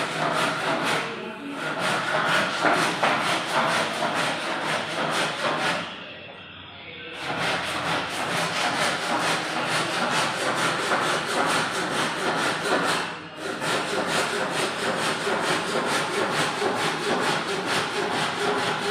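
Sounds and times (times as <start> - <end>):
hand saw cutting wood: 0.0 - 5.8, 7.2 - 18.9.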